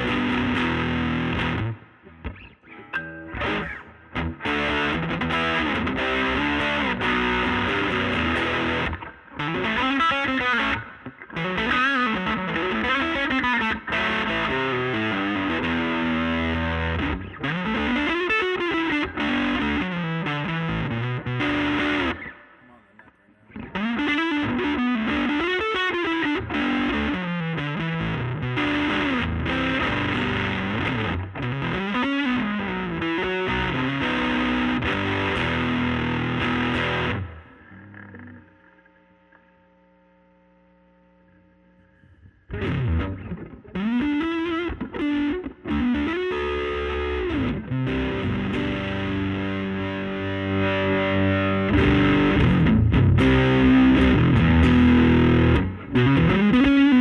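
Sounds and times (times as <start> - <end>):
overdriven electric guitar riffs: 0.0 - 57.0.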